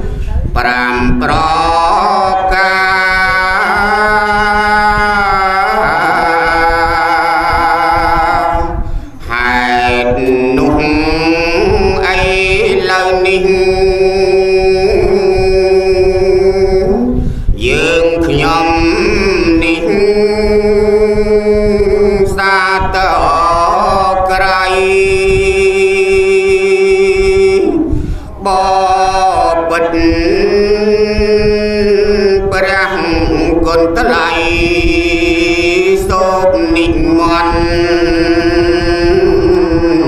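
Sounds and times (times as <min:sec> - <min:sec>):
man chanting: 0:00.0 - 0:40.0.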